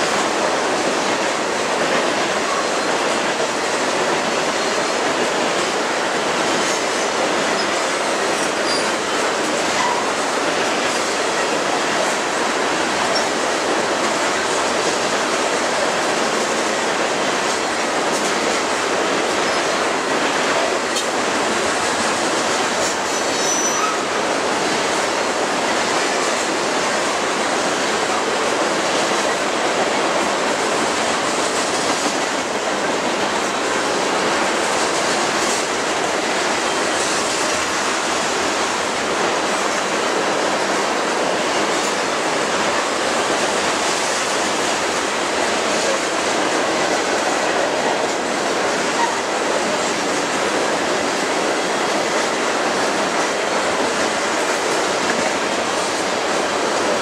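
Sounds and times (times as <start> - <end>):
train wheels rushing on rail: 0.0 - 57.0.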